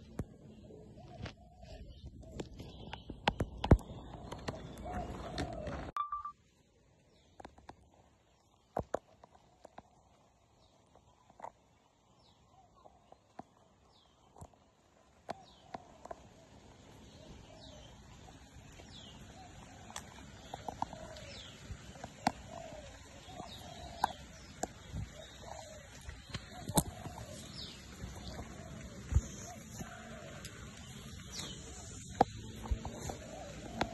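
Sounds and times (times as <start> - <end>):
birds chirping: 0.0 - 6.3, 7.0 - 33.9.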